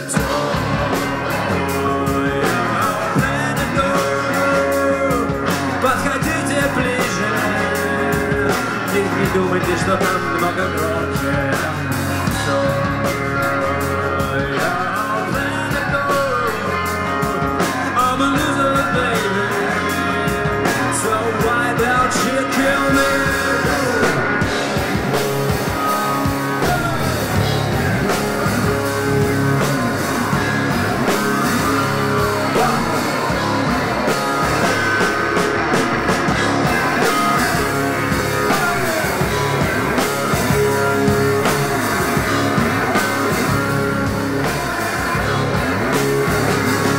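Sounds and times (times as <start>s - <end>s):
bass guitar: 0.0s - 46.9s
drum kit: 0.0s - 46.9s
electric guitars: 0.0s - 46.9s.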